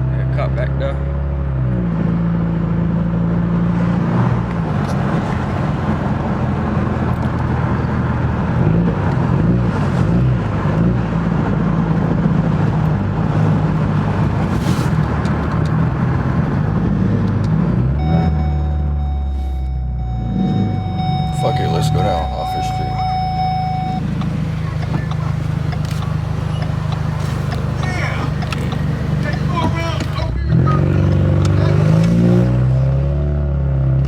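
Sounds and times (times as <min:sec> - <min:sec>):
car engine revving: 0:00.0 - 0:34.0
road noise: 0:00.0 - 0:34.0.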